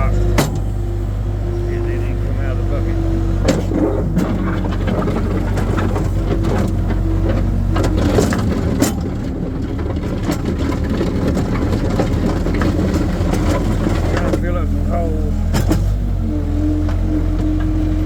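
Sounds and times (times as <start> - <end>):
bucket scraping over gravel: 0.0 - 16.0
skid steer engine running: 0.0 - 18.0.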